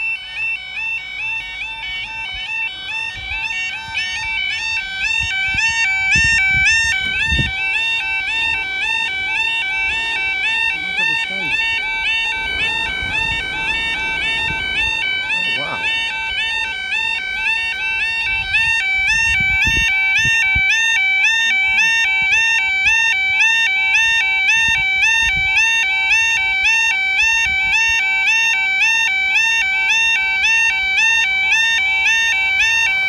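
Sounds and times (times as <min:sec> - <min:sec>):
two-tone level-crossing alarm: 0:00.0 - 0:33.0.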